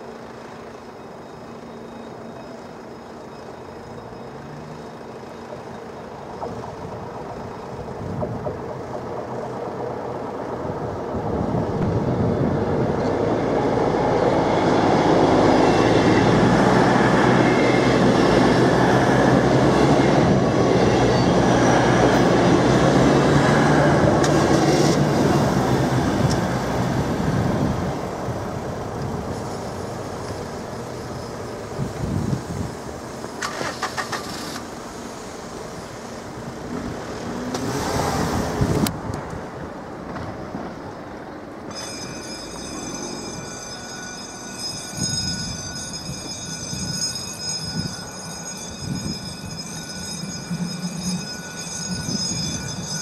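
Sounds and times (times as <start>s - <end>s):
passenger train passing: 0.0s - 53.0s.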